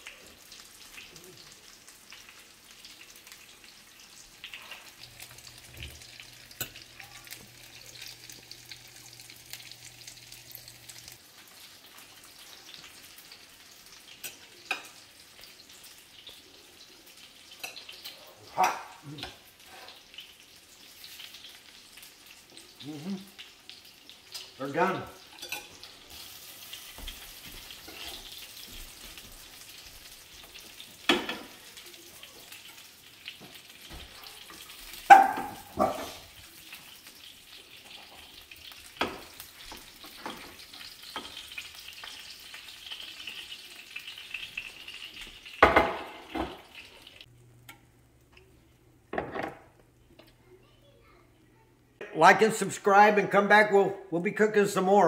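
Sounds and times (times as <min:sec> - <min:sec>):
patties sizzling in oil: 0:00.0 - 0:55.0.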